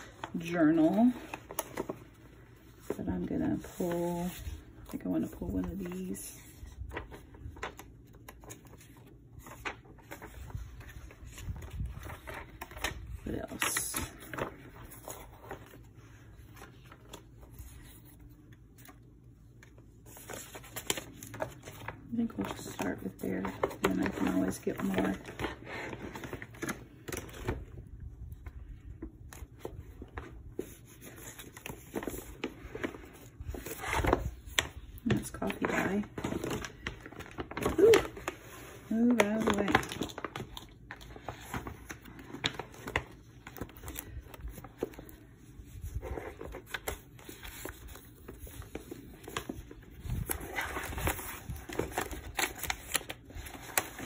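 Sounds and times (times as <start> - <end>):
paper and plastic sleeve crinkling: 0.0 - 54.0.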